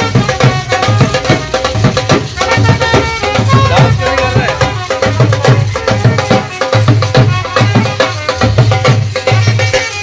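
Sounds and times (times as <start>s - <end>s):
dhol drum beating: 0.0s - 10.0s
low brass horn: 0.0s - 10.0s
trumpet melody: 0.0s - 10.0s.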